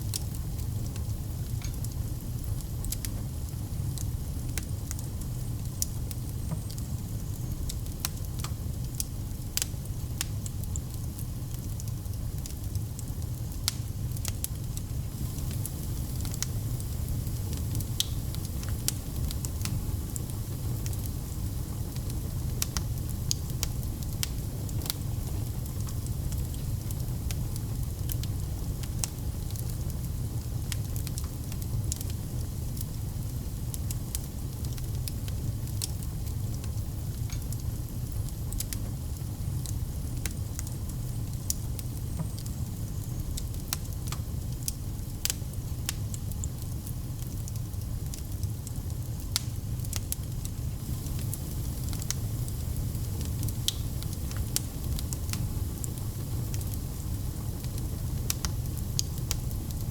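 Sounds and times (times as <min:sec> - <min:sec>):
fire crackling and popping: 0:00.0 - 0:59.9
low rumble of flames: 0:00.0 - 0:59.9.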